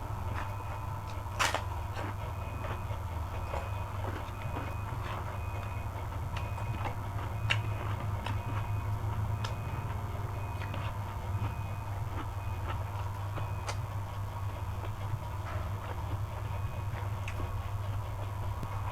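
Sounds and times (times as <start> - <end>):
steady low hum: 0.0 - 18.9
chewing with sharp clicks: 0.3 - 18.8.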